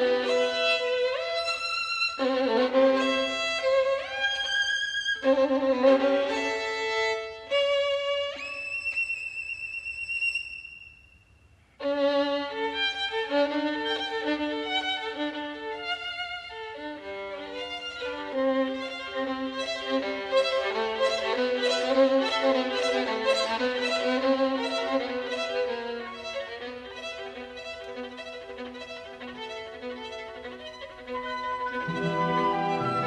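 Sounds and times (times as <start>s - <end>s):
violin music: 0.0s - 9.2s, 11.8s - 33.0s.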